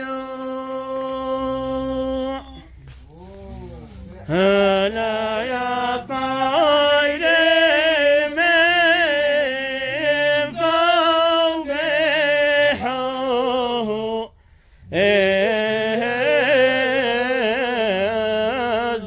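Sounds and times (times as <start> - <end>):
person chanting unaccompanied: 0.0 - 19.0.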